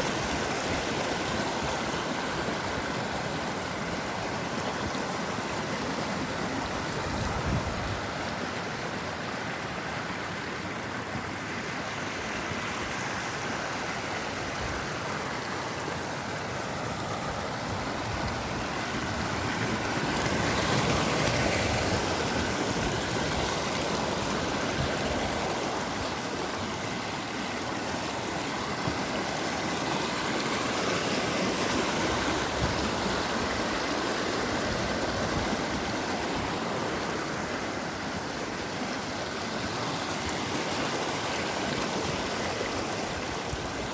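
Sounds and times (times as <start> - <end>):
rushing water: 0.0 - 43.9.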